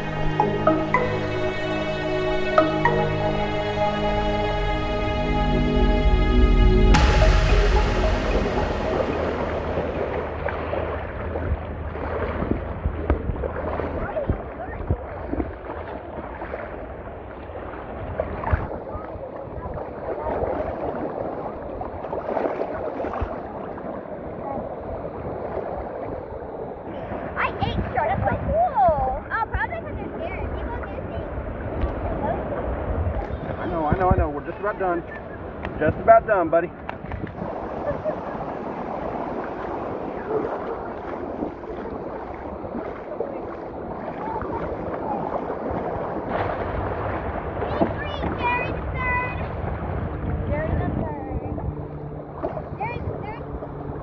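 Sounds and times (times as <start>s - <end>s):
surf water sloshing and splashing: 0.0s - 54.0s
wind buffeting microphone: 6.8s - 54.0s.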